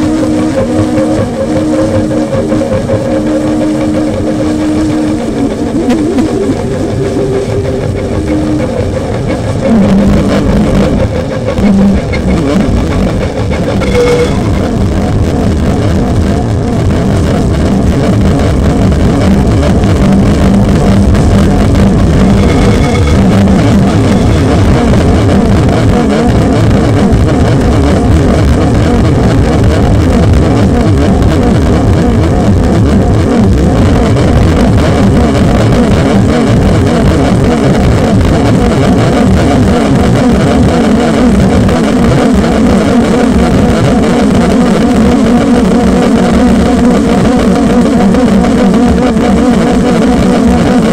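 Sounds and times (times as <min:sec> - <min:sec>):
loud dense noise: 0:00.0 - 0:50.9
low hum: 0:00.0 - 0:50.9
wavering drone tones: 0:00.0 - 0:50.9.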